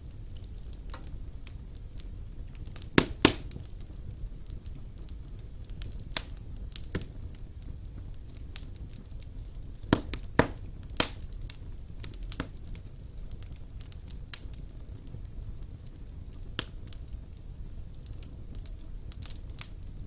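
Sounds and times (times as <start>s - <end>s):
fire crackles and pops: 0.0s - 20.0s
fire low rumble: 0.0s - 20.0s.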